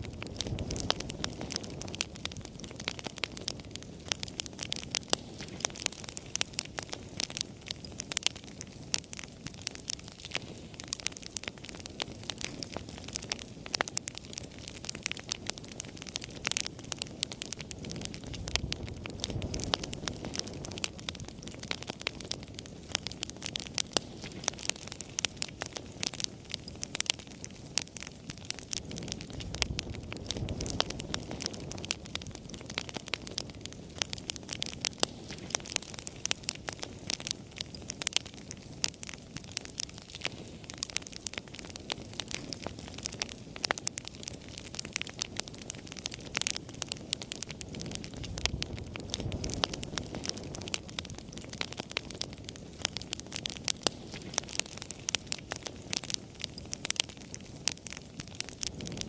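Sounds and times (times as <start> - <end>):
low rush of flames: 0.0 - 59.0
wood fire crackling and popping: 0.0 - 59.0.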